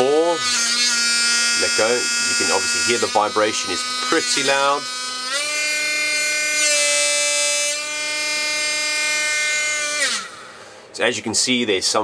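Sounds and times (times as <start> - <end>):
rotary tool motor whine: 0.0 - 10.6
buzzing casing vibration: 0.0 - 11.5.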